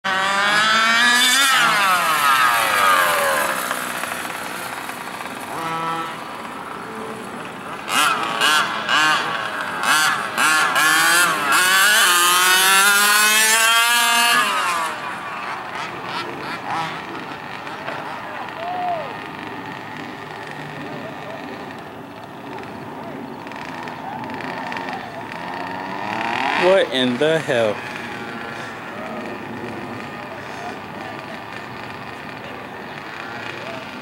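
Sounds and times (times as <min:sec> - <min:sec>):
rc truck engine revving: 0:00.1 - 0:34.0.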